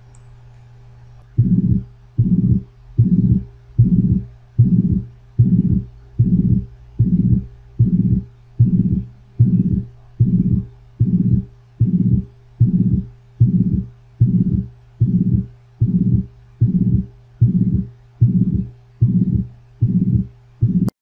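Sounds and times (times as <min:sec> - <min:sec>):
steady low hum: 0:00.0 - 0:21.0
heartbeat through stethoscope: 0:01.4 - 0:21.0.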